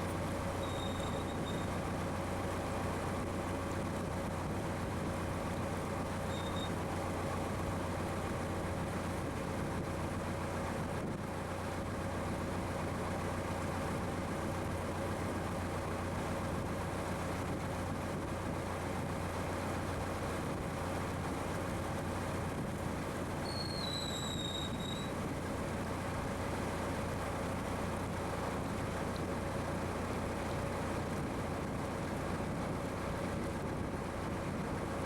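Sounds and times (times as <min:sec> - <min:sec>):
motorboat engine running: 0:00.0 - 0:35.0.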